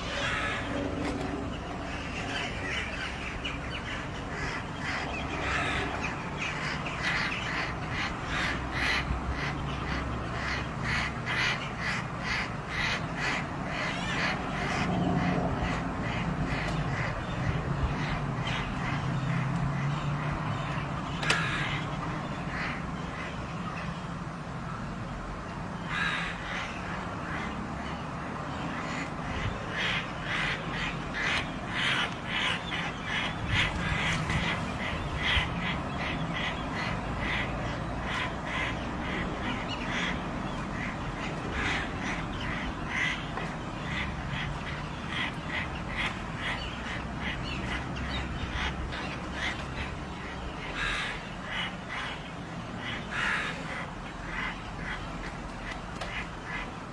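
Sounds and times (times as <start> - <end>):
birds calling in repeated notes: 0.0 - 56.9.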